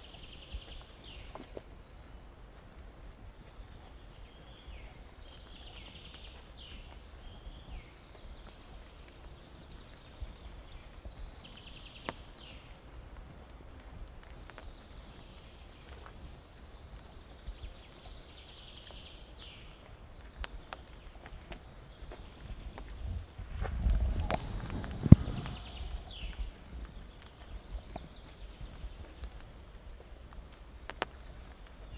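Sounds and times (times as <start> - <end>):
soft footsteps: 0.1 - 31.9.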